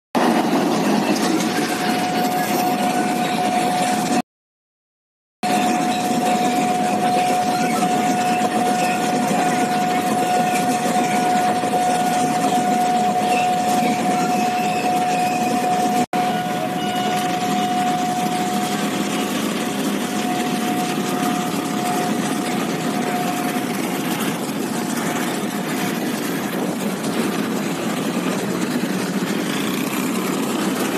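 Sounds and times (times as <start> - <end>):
passing train rail noise: 0.2 - 4.2, 5.4 - 30.9
crossing signal warning tone: 1.1 - 4.2, 5.4 - 30.9
motorbike engines: 5.4 - 30.9.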